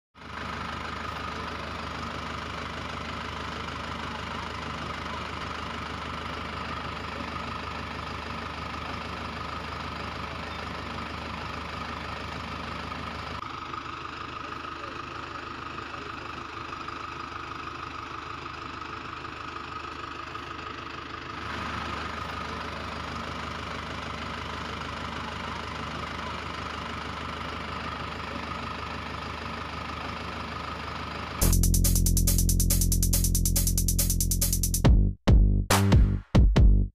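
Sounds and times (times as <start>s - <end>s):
tractor engine idling: 0.2s - 34.9s.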